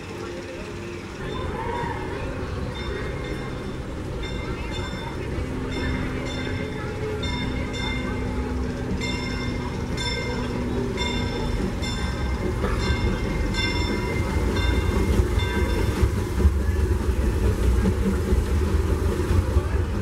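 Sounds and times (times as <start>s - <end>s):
train bell ringing: 0.0s - 18.4s
low rumble of train: 0.0s - 20.0s.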